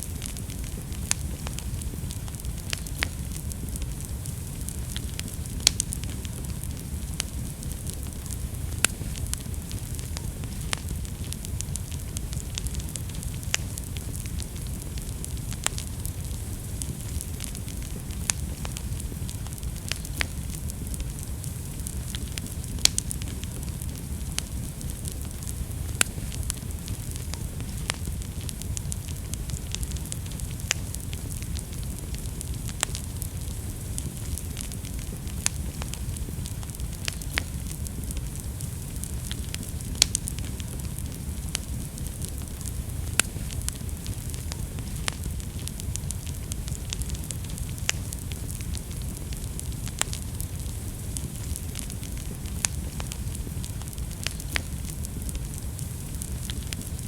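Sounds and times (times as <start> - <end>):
fire rumbling and hissing: 0.0 - 57.0
wood fire crackling and popping: 0.0 - 57.0.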